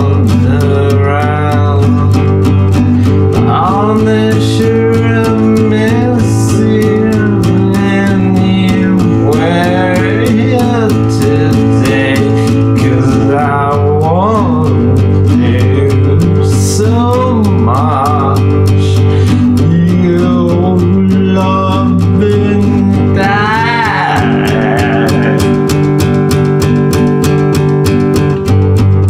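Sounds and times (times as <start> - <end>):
guitar strumming fast rhythm: 0.0 - 29.0
lo-fi country song: 0.0 - 29.0.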